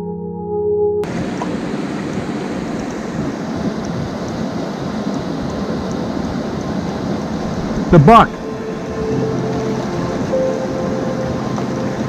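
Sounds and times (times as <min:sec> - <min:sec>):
river water rushing over boulders: 0:01.1 - 0:12.0.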